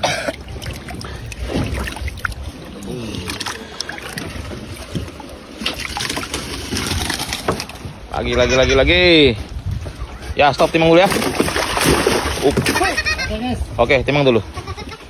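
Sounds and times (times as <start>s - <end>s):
boat low rumble: 0.0s - 15.0s.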